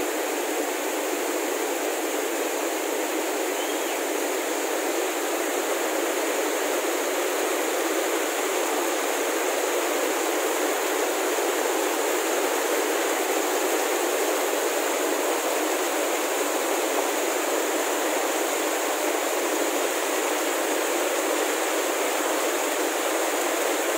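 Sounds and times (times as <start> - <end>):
mountain stream rushing over rocks: 0.0 - 23.9.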